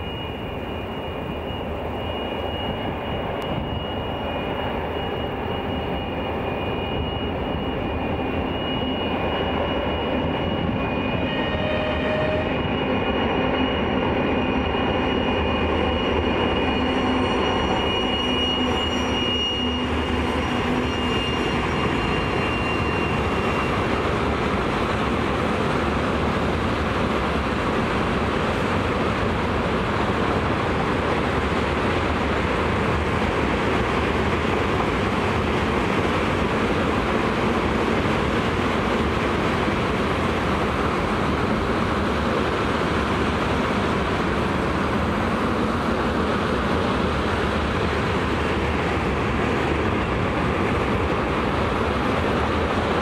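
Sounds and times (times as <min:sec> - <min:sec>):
diesel locomotive engine: 0:00.0 - 0:53.0
train wheels rolling on rails: 0:00.0 - 0:53.0.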